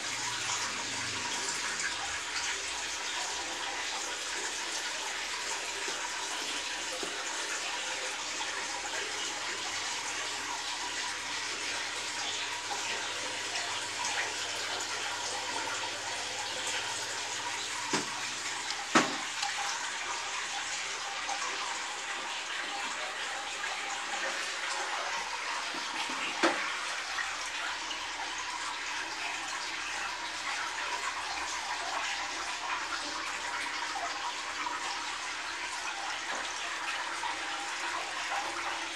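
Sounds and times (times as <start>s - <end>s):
aquarium water splashing: 0.0s - 38.9s.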